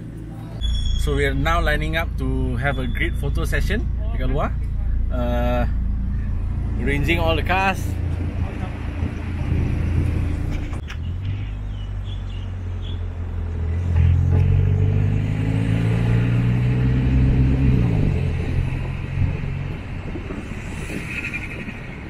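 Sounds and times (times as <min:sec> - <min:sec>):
car engine running at low revs: 0:00.0 - 0:20.6.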